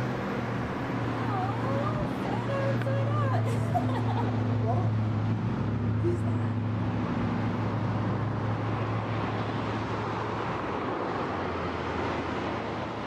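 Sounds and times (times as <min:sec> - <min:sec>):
low vehicle engine hum: 0:00.0 - 0:13.0
street traffic rush: 0:00.0 - 0:13.0.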